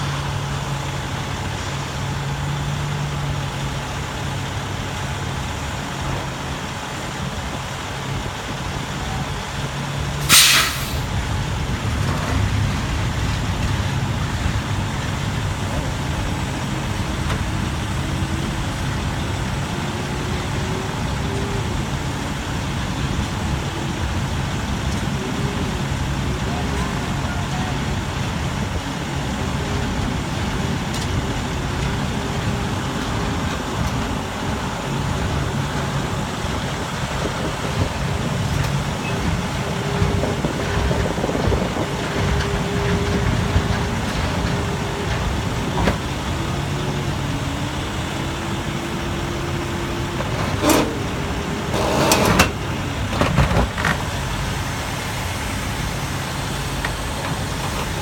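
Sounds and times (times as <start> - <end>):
large engine running: 0.0 - 58.0.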